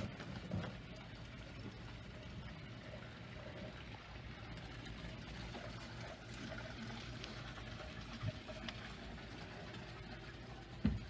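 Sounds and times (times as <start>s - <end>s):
steady low hum: 0.0s - 11.0s
water lapping against boat hull: 0.0s - 11.0s.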